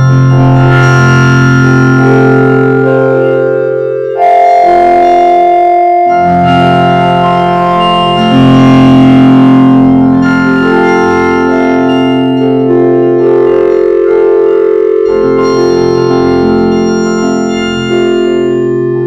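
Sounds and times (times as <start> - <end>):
vocoded organ-like chords: 0.0 - 19.0.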